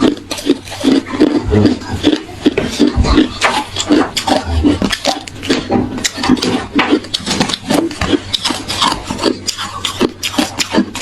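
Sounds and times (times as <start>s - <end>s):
ice being chewed: 0.0s - 11.0s.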